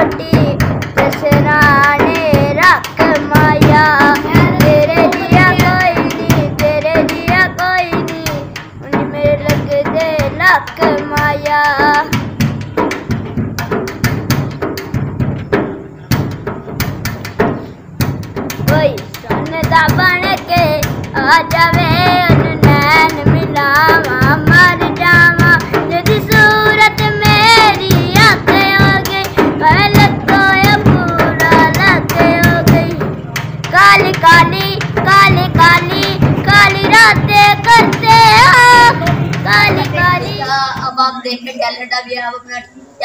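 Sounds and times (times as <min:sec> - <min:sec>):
boy singing folk song: 0:00.0 - 0:14.7, 0:17.4 - 0:42.6.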